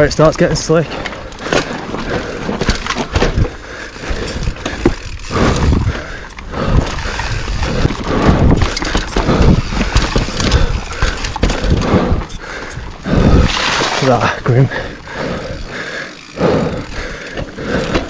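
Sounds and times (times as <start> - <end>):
bike knocks and rattles: 0.0 - 14.3, 15.4 - 18.0
bike tyres rolling over mud and rock: 0.0 - 18.0.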